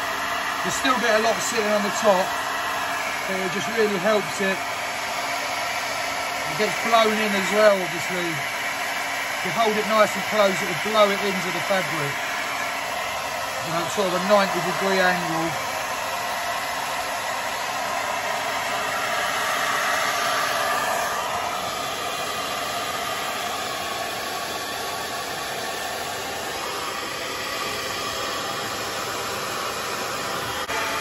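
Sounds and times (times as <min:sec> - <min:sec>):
hair dryer running: 0:00.0 - 0:31.0.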